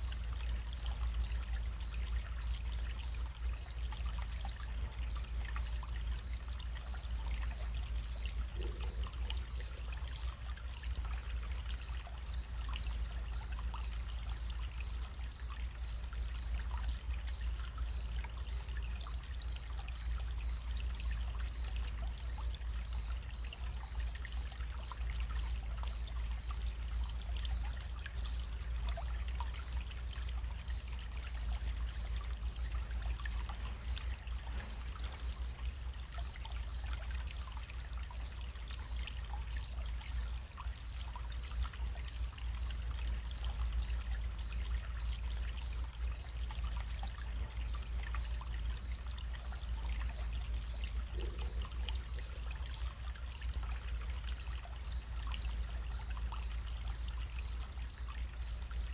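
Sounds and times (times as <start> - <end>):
low steady rumble: 0.0 - 58.9
small water splashes: 0.0 - 58.9
stream water flowing: 0.0 - 58.9.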